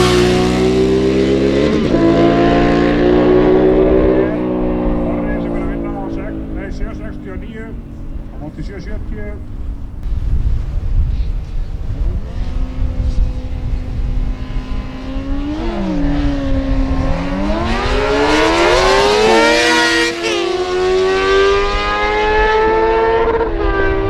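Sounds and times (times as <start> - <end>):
motorcycles accelerating: 0.0 - 24.0.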